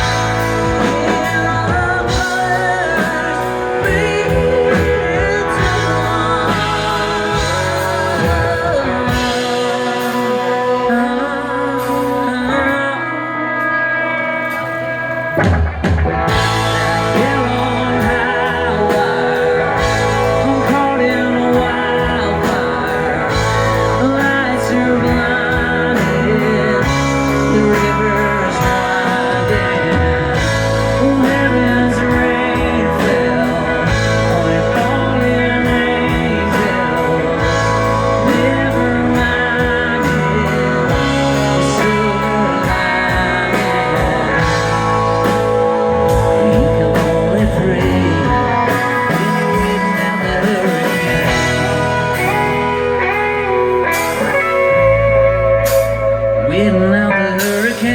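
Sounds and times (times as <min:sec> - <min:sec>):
electric guitar: 0:00.0 - 0:57.9
rock band playing live: 0:00.0 - 0:57.9.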